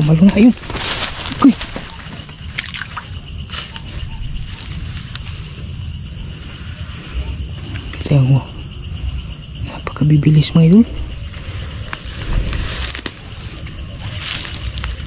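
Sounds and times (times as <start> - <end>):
handling noise rumble: 0.0 - 15.0
insects trilling: 0.0 - 15.0.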